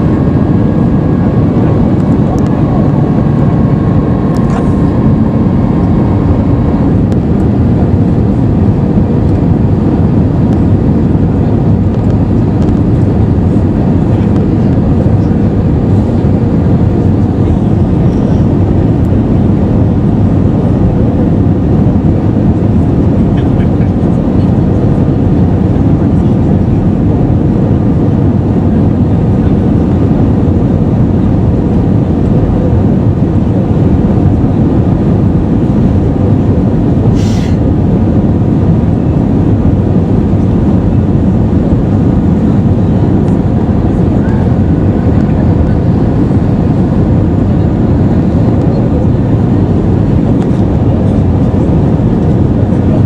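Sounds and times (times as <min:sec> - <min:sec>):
airliner cabin engine roar: 0:00.0 - 0:53.0.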